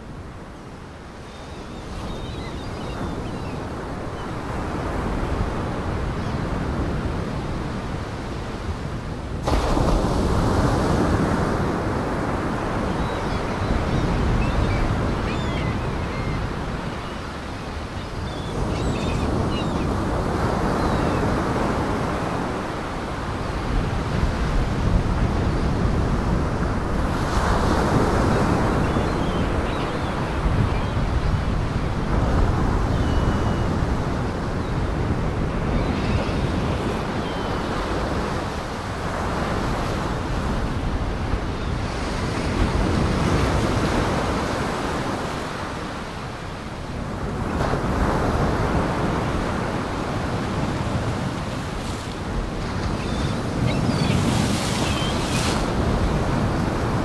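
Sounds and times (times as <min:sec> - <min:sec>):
waves breaking and washing in: 0:00.0 - 0:57.0.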